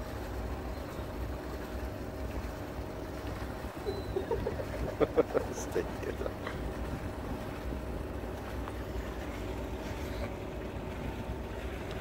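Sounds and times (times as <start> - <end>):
faint hum: 0.0 - 12.0
ship machinery rumble: 0.0 - 12.0.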